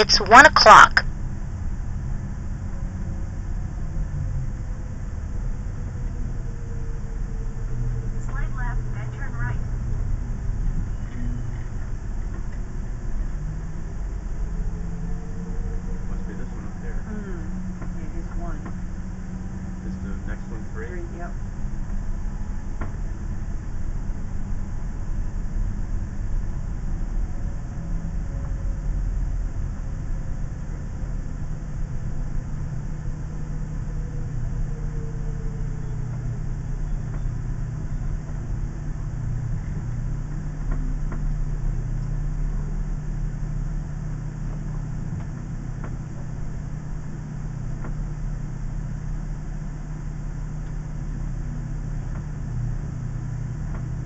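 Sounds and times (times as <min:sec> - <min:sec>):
faint falling whine: 0:02.5 - 0:54.0.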